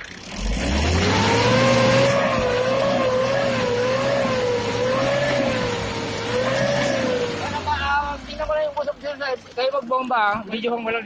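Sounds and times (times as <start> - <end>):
diesel engine at high revs: 0.0 - 8.9.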